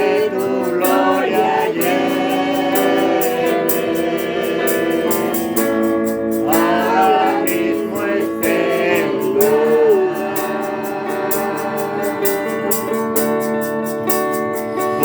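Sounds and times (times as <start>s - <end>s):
group singing worship chorus: 0.0s - 13.3s
strummed guitar: 0.0s - 15.0s.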